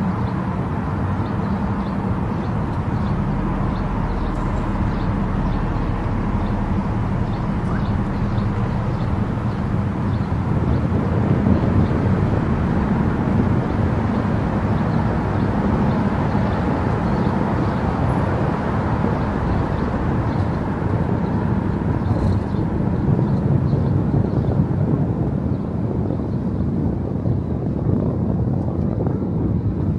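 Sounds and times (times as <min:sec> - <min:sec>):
tyre and road noise: 0:00.0 - 0:29.9.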